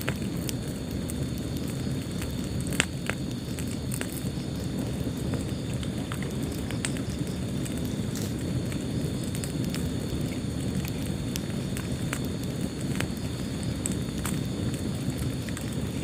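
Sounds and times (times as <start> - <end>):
fire popping and snapping: 0.0 - 16.0
low rumble of burning: 0.0 - 16.0.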